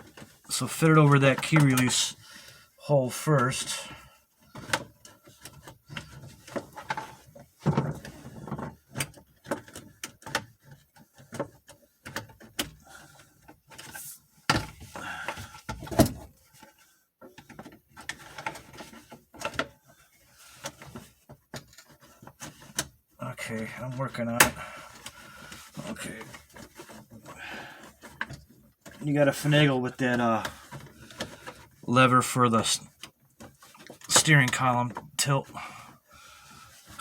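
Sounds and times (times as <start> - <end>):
plastic clicking and scraping: 0.0 - 2.6, 4.3 - 37.0.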